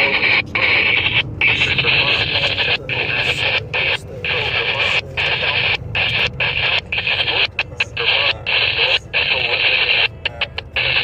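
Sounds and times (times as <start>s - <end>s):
radio static hiss: 0.0s - 11.0s
synthesized voice speaking: 0.0s - 11.0s.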